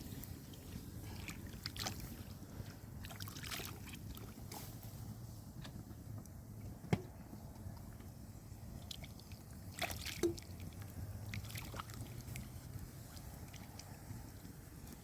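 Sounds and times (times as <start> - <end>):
water sloshing and dripping: 0.0 - 5.0, 6.2 - 15.0.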